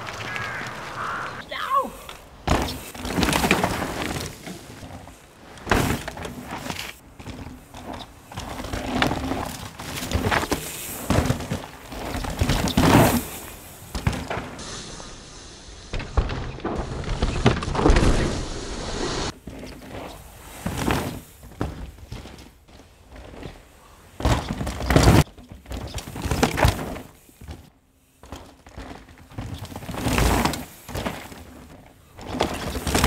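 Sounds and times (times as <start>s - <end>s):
bike tyres skidding through dirt: 2.2s - 14.7s, 16.0s - 33.0s.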